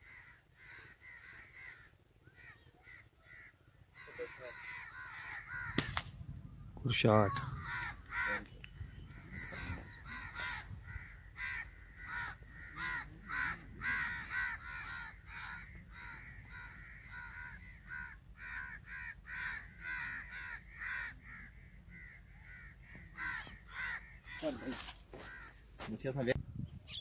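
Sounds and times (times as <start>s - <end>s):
crows cawing: 0.0s - 5.9s, 7.2s - 26.0s.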